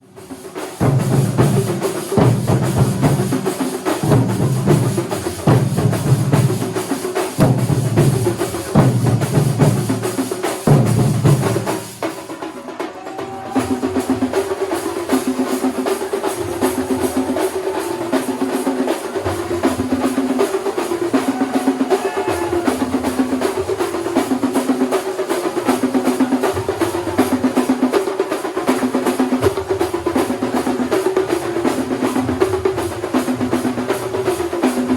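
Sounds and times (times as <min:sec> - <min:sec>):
drum ensemble playing: 0:00.0 - 0:34.9.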